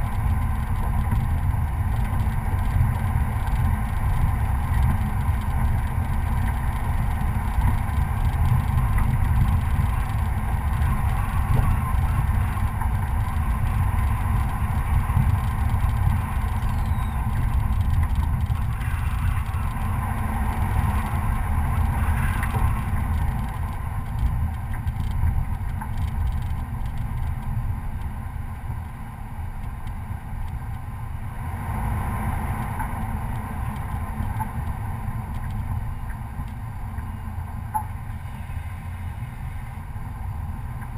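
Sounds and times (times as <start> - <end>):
pickup truck engine driving: 0.0 - 40.9.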